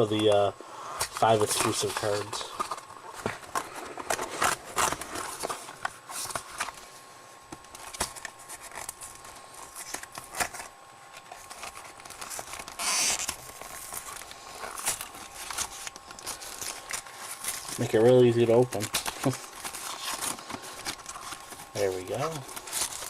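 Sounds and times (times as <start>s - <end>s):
cardboard packaging crinkling: 0.0s - 6.9s, 7.5s - 23.0s
cardboard tearing: 1.0s - 6.8s, 7.7s - 23.0s.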